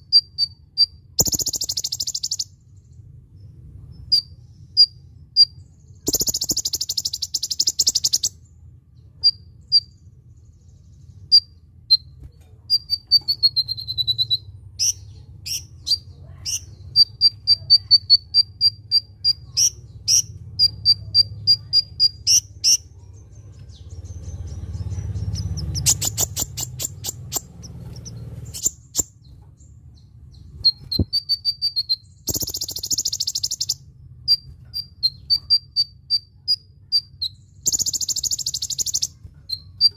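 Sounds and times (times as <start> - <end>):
sunbird chips and trills: 0.0 - 39.9.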